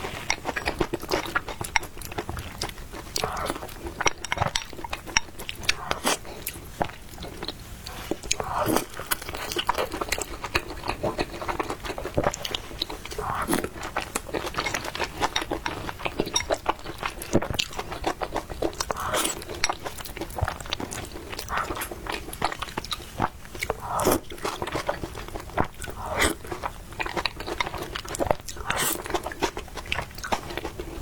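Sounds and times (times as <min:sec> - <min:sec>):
person chewing crunchy food: 0:00.0 - 0:31.0.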